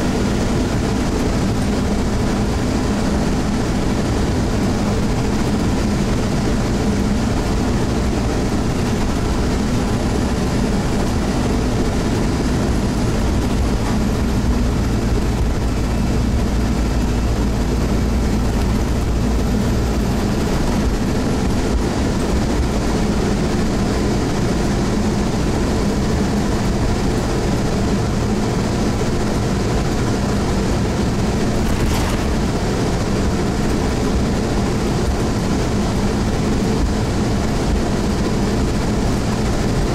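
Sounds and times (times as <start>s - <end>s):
bus engine hum and rumble: 0.0s - 39.9s.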